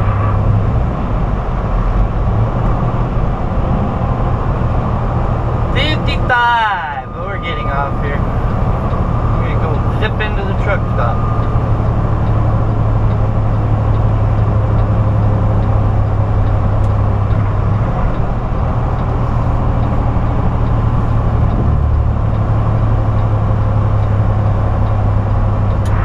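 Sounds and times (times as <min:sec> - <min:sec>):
diesel truck engine droning: 0:00.0 - 0:26.0
road and tyre noise: 0:00.0 - 0:26.0.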